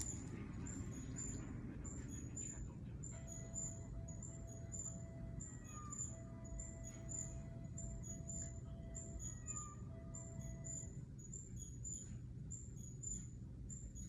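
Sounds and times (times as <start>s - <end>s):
high-pitched chirps: 0.0s - 14.0s
steady low hum: 0.0s - 14.0s.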